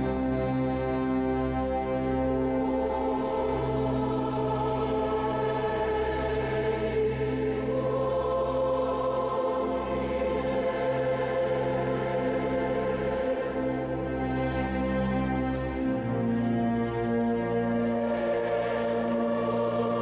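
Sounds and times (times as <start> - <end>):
chamber orchestra: 0.0 - 20.0
choir singing: 0.0 - 20.0.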